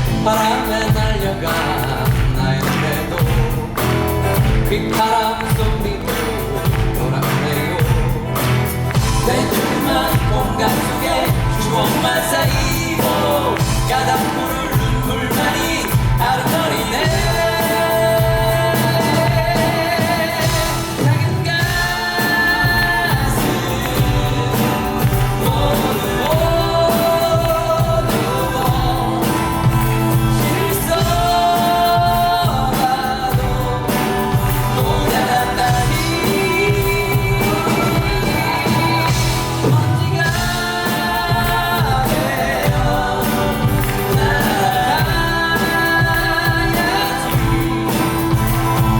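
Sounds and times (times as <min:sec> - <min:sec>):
band accompaniment: 0:00.0 - 0:48.9
cast singing: 0:00.0 - 0:48.9.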